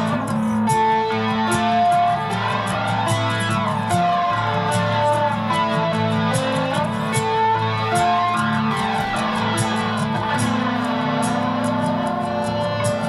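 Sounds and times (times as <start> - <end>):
nylon-string guitar picking: 0.0 - 13.0.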